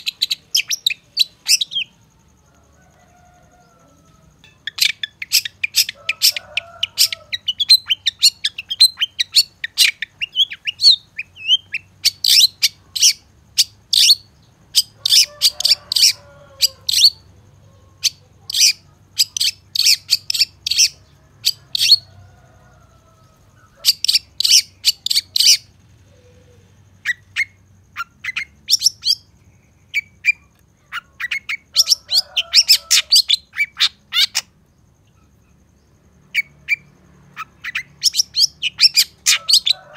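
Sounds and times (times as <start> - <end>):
faint bird twittering: 0.0 - 39.9.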